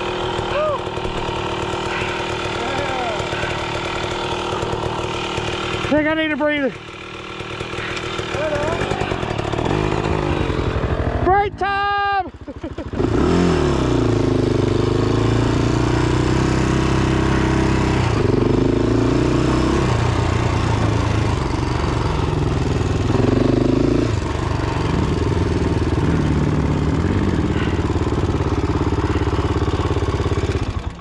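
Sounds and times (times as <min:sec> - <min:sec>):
single-cylinder engine running: 0:00.0 - 0:31.0.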